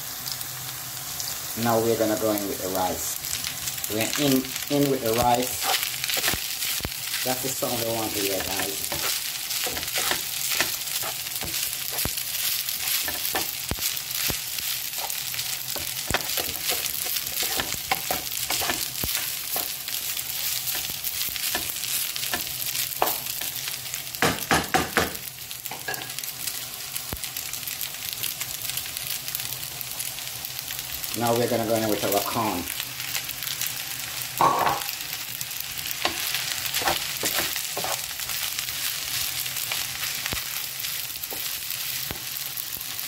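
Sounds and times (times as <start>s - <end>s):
vegetables sizzling in a hot pan: 0.0s - 43.0s.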